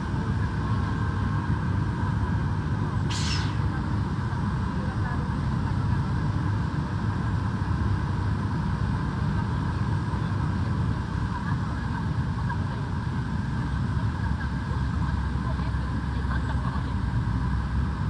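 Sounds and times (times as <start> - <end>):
aircraft and machinery rumble: 0.0 - 18.0.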